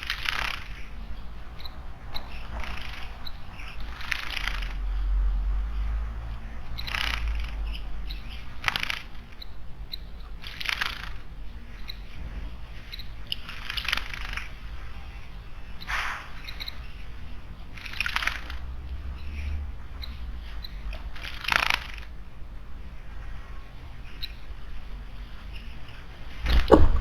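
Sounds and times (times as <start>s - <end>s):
songbirds chip calls: 0.0s - 22.0s.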